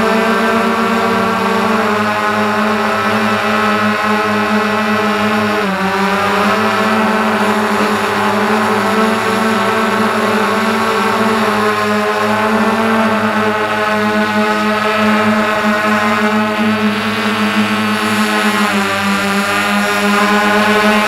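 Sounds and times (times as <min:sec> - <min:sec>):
model aircraft motor and propeller whine: 0:00.0 - 0:21.0.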